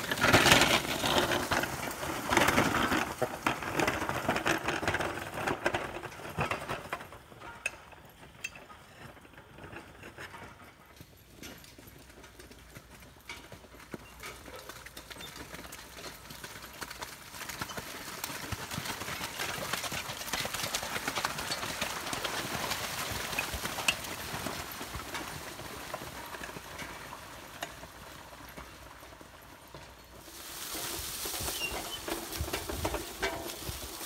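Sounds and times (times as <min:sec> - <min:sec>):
cart knocking and rattling: 0:00.0 - 0:34.0
hooves clopping in mud: 0:00.0 - 0:34.0.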